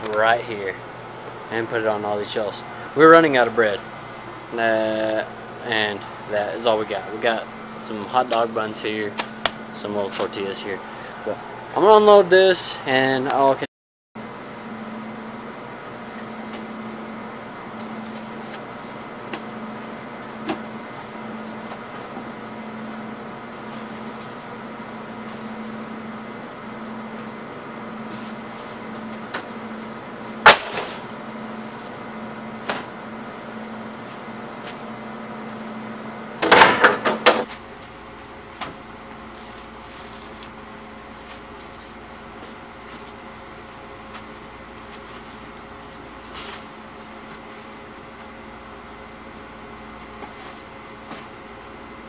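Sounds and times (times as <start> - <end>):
pulsing background hum: 0.0 - 52.0.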